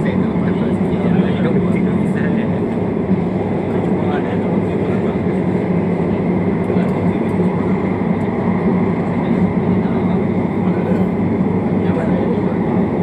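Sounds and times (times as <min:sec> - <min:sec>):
train wheels and motors rumbling: 0:00.0 - 0:13.0.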